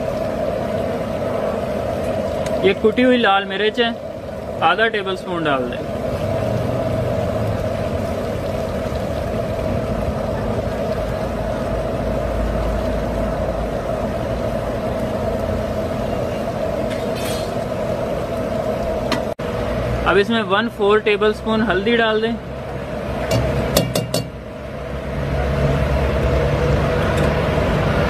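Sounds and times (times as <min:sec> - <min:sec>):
water boiling hard: 0:00.0 - 0:28.0.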